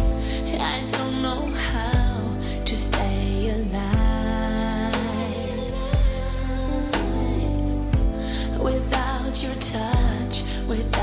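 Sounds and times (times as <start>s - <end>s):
keyboard and bass tones: 0.0s - 11.0s
woman singing a pop ballad: 0.0s - 11.0s.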